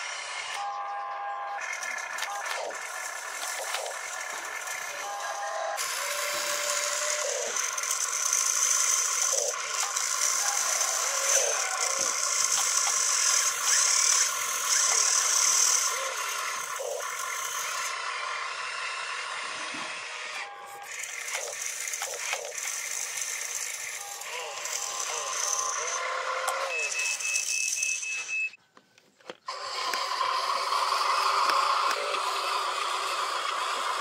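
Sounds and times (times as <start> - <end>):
small electric motors whining: 0.0 - 28.6, 29.2 - 34.0.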